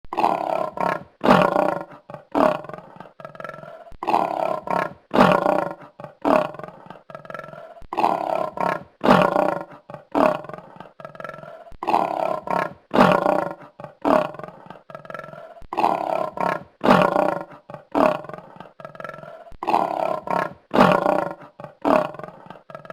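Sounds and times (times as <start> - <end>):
lioness roaring and grunting: 0.1 - 22.9.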